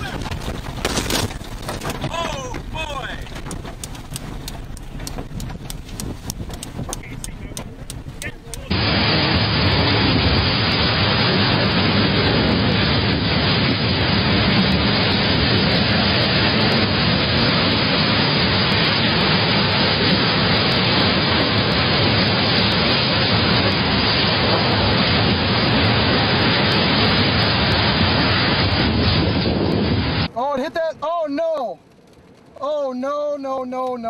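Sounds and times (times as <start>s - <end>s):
storm wind blowing hard: 0.0s - 30.4s.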